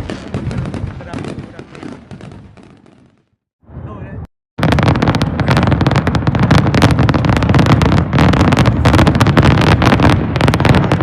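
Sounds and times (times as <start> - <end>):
fireworks bangs and crackles: 0.0 - 3.8, 4.6 - 11.0.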